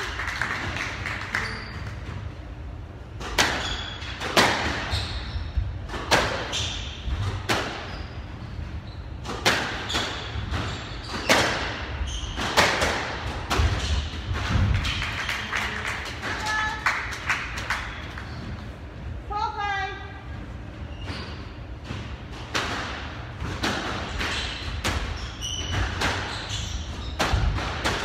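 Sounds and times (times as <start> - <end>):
rackets striking squash ball: 3.1 - 18.6, 21.0 - 28.0.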